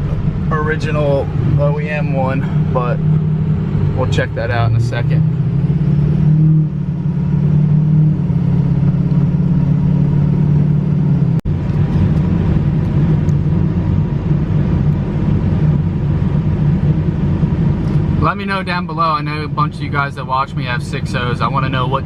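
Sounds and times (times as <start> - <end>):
diesel engine low drone: 0.0 - 22.0.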